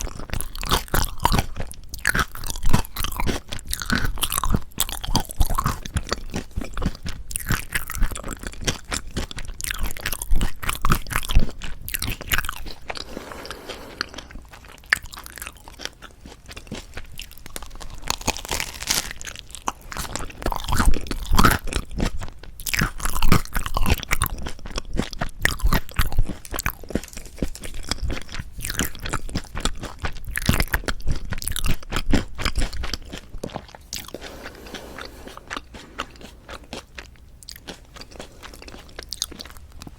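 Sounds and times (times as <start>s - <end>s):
crunchy chewing of toasted bread: 0.0s - 39.9s.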